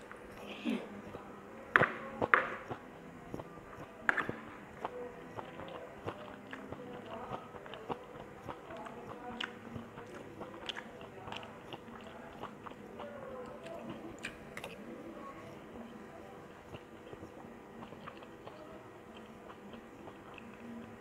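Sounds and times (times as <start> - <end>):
person chewing food: 2.2 - 21.0.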